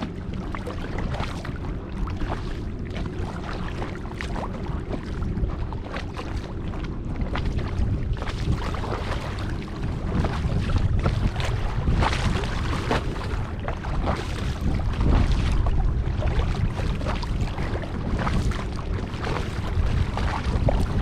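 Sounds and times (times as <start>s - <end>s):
paddle splashing water: 0.0s - 21.0s
wind rumble on microphone: 0.0s - 21.0s.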